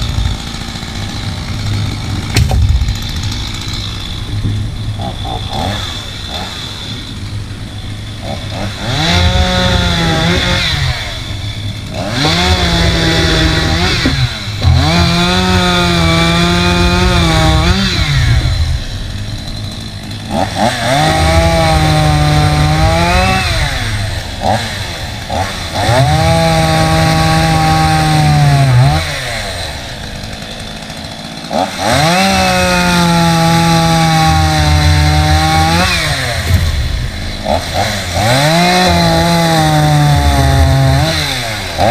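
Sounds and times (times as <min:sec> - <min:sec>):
chainsaw engine revving: 0:00.0 - 0:41.9.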